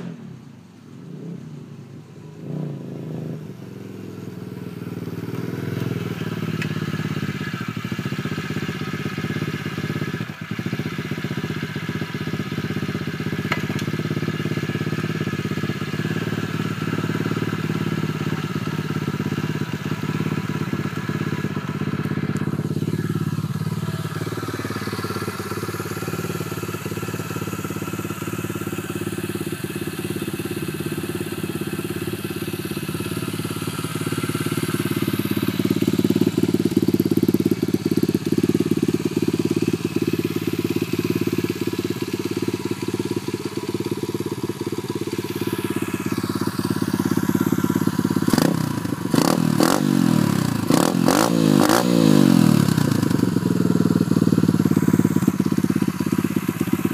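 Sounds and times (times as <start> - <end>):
motorbike engine idling and revving: 0.0 - 56.9.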